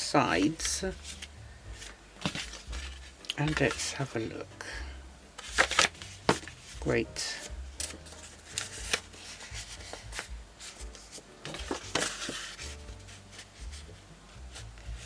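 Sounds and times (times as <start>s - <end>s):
paper rustling: 0.0s - 4.4s, 5.4s - 15.0s
paper tapping and sliding: 0.4s - 4.4s, 5.4s - 13.9s.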